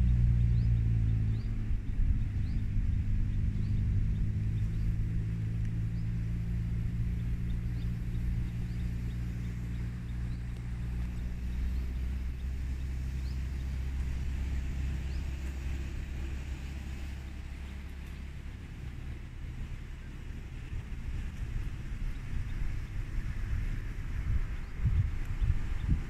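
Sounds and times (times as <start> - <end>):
car engine running at low speed: 0.0 - 26.0.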